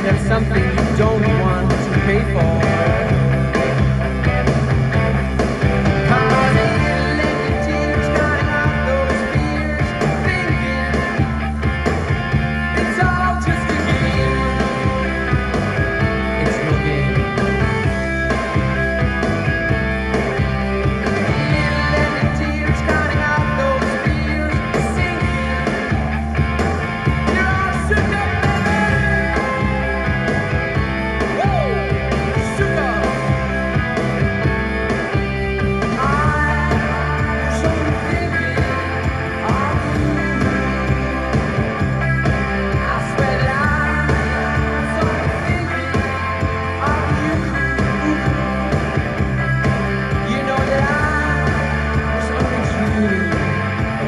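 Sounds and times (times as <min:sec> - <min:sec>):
rock music through speakers: 0:00.0 - 0:54.0.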